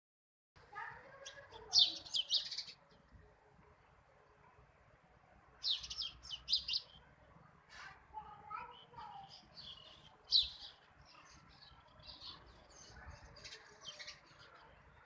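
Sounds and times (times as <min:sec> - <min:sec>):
small birds chirping: 0:00.7 - 0:04.7, 0:05.4 - 0:15.0.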